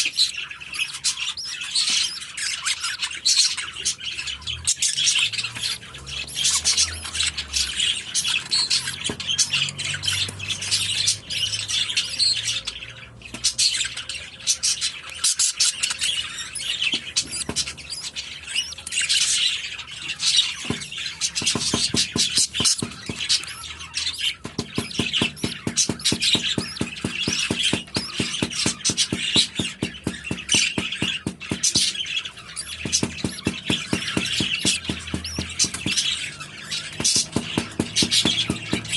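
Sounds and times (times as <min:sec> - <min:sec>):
budgerigars chattering and squawking: 0:00.0 - 0:38.9.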